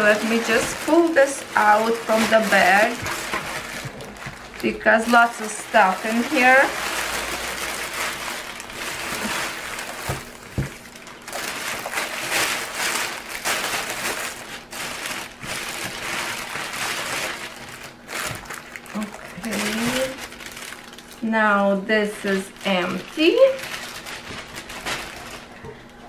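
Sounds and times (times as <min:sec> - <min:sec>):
packaging bags rustling: 0:00.0 - 0:26.0.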